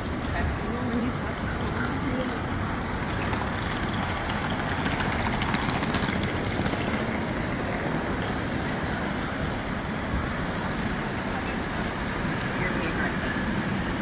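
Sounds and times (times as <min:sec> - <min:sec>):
indistinct crowd noise: 0:00.0 - 0:14.0.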